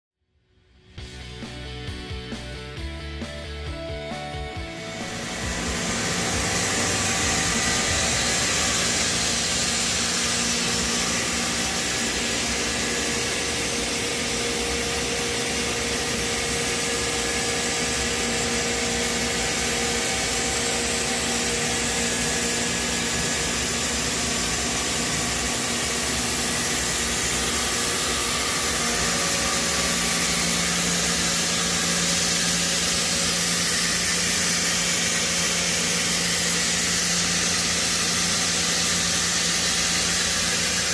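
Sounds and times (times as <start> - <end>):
constant tones: 4.7 - 40.9
machinery hum and hiss: 4.8 - 40.9.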